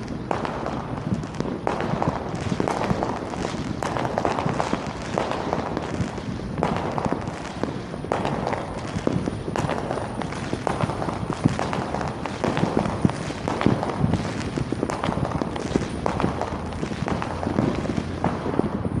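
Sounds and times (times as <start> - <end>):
firecrackers popping and crackling: 0.0 - 19.0
outdoor din: 0.3 - 19.0.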